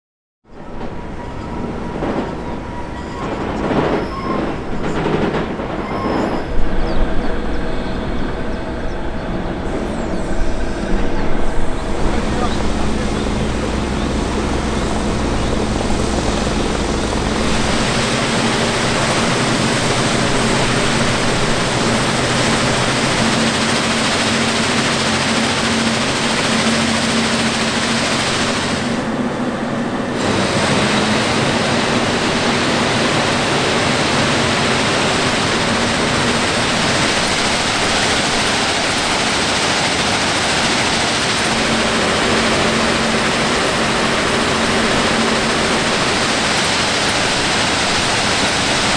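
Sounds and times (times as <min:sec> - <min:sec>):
power units humming: 0:00.6 - 0:48.9.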